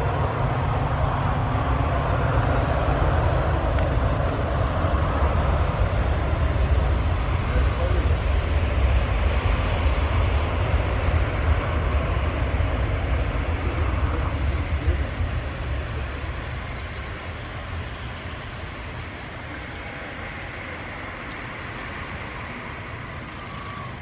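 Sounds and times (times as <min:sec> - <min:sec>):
jet engines rumbling at takeoff: 0:00.0 - 0:24.0.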